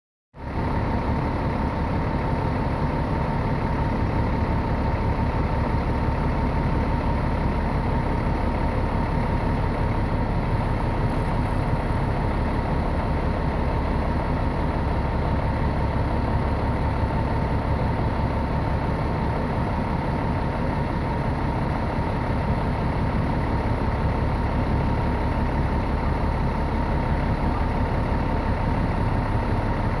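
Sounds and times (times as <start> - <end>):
diesel engine idling: 0.4 - 30.0.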